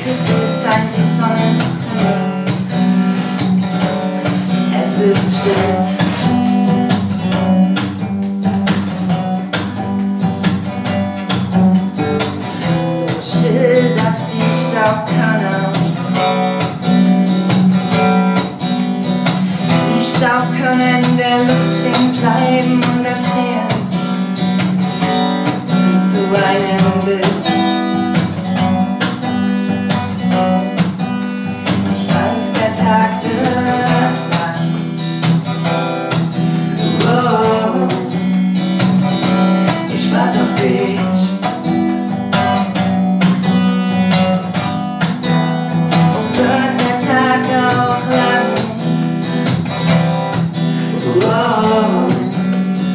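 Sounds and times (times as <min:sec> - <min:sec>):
acoustic guitar strummed: 0:00.0 - 0:52.9.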